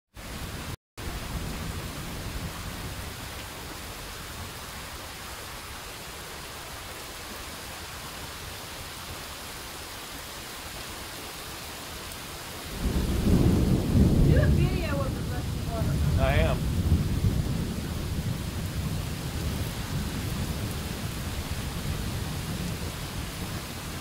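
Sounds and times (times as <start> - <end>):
heavy rain hissing: 0.2 - 24.0.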